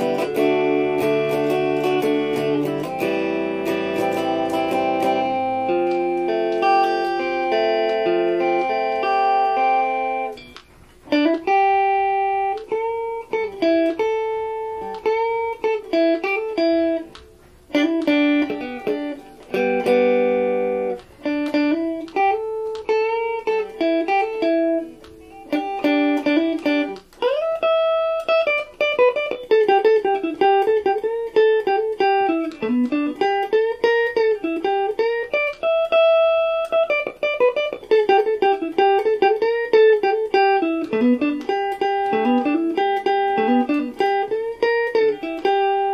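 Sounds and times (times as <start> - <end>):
electric guitar melody: 0.0 - 45.9.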